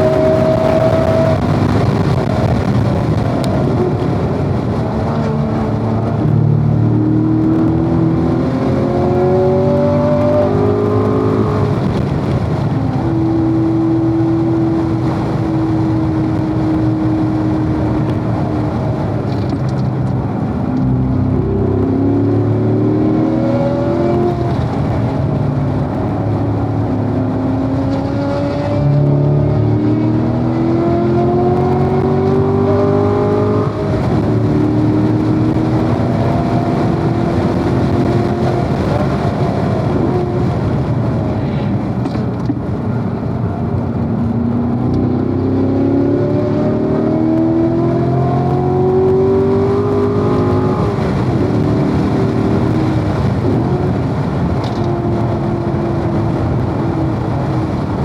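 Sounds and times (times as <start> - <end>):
car engine revving hard: 0.0 - 19.6, 20.2 - 58.0.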